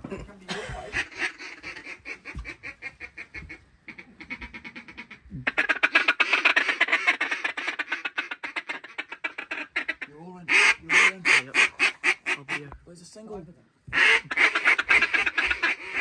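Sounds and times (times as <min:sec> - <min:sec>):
duck call quacking: 0:00.9 - 0:12.7, 0:13.9 - 0:16.0.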